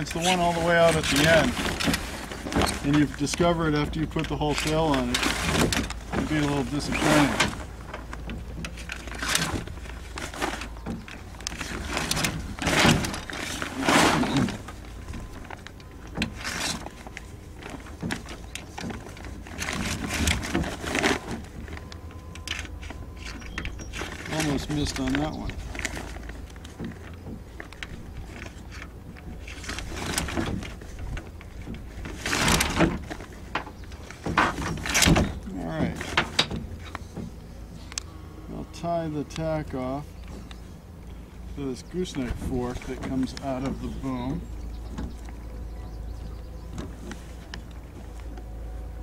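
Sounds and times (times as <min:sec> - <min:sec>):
sailcloth rustling and crinkling: 0:00.0 - 0:49.0.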